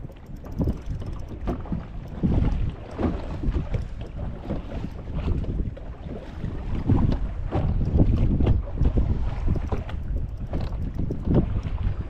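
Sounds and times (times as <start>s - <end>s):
water around boat hull: 0.0s - 12.0s
wind buffeting microphone: 0.0s - 12.0s.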